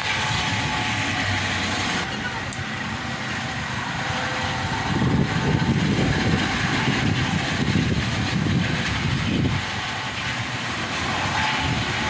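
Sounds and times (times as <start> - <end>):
helicopter flying overhead: 0.0 - 12.0.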